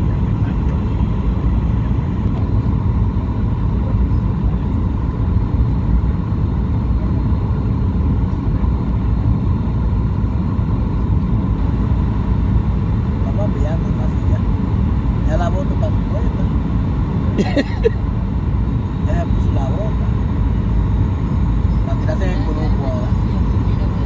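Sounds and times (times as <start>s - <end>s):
airliner cabin engine noise: 0.0s - 24.0s
faint steady whine: 0.0s - 24.0s.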